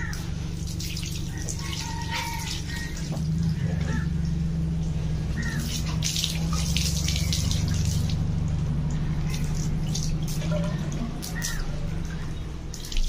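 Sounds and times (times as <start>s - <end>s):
water splashing on wet concrete: 0.0s - 3.7s, 5.3s - 13.0s
water running through bamboo tube: 0.0s - 3.8s, 5.4s - 13.0s.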